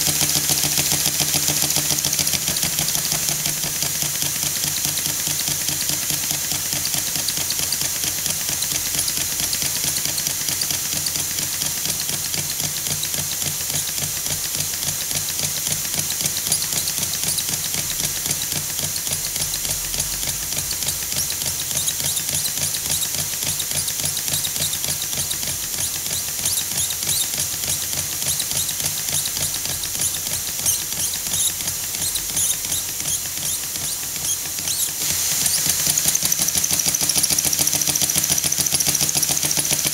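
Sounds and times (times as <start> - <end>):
mechanical ticking: 0.0 - 39.9.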